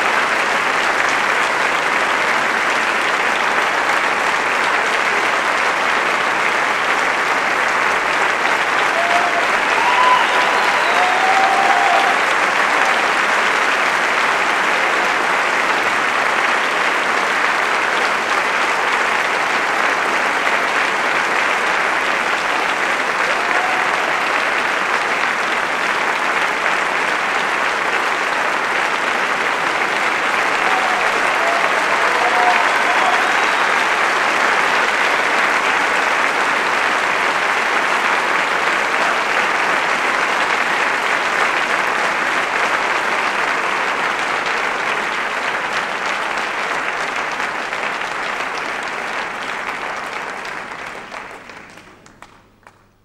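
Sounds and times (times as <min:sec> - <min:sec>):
audience applauding: 0:00.0 - 0:53.0.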